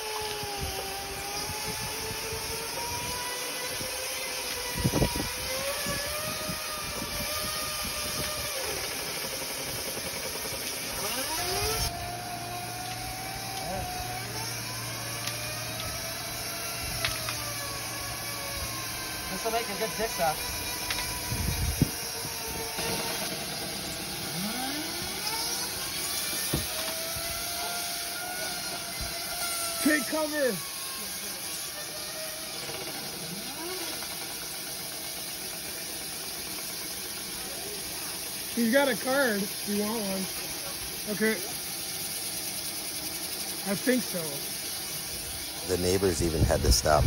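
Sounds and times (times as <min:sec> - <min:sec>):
blower rushing air: 0:00.0 - 0:36.2, 0:36.8 - 0:47.0.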